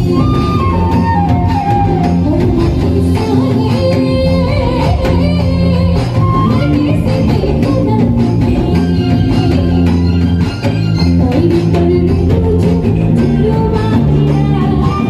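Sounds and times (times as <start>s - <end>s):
woman singing into microphone: 0.0s - 10.2s, 11.2s - 15.0s
electric guitar: 0.0s - 15.0s.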